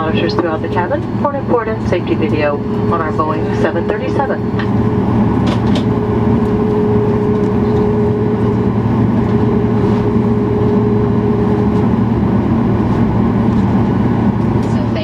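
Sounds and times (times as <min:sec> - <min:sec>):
aircraft cabin hum: 0:00.0 - 0:15.0
steady whine: 0:00.0 - 0:15.0.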